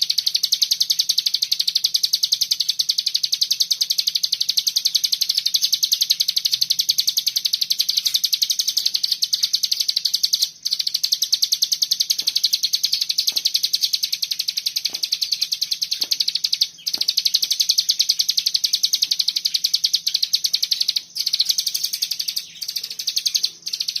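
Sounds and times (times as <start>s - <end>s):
bird rapid high trill: 0.0s - 24.0s.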